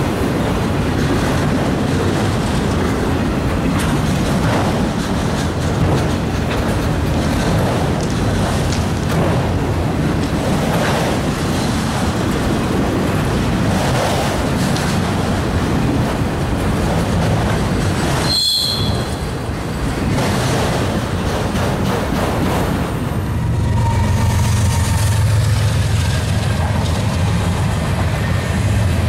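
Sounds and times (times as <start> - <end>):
steel wheels rumbling on rail: 0.0 - 29.0.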